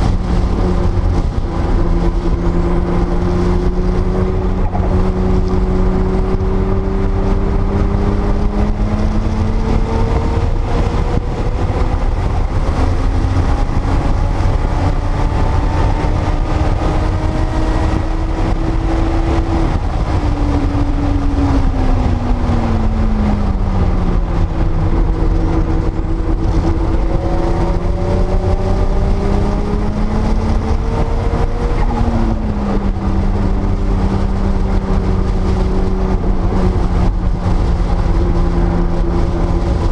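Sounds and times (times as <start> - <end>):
car engine at speed: 0.0 - 39.9
wind and road noise rumble: 0.0 - 39.9.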